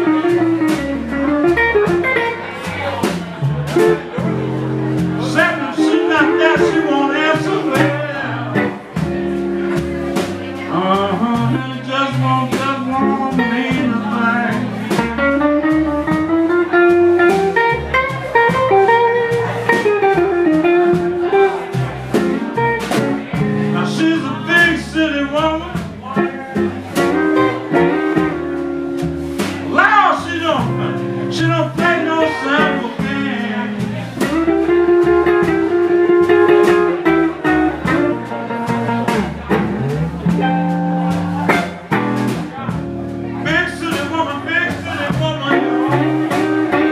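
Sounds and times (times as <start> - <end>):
drum beat: 0.0 - 24.8, 25.4 - 46.9
bending lead guitar notes: 0.0 - 46.9
blues band playing: 0.0 - 46.9
upright bass: 0.0 - 46.9.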